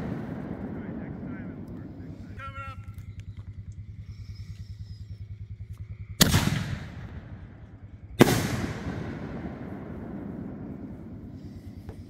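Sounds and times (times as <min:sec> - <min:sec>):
fireworks bangs: 0:00.0 - 0:04.1, 0:06.2 - 0:12.0
echoing rumble: 0:00.0 - 0:12.0.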